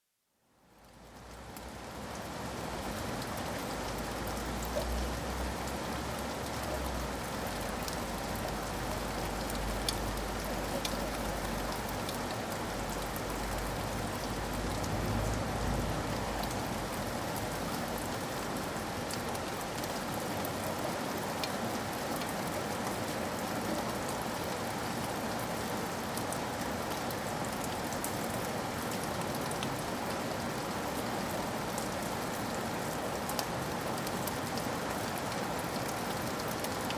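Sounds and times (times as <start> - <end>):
heavy rain on window: 0.6 - 36.9.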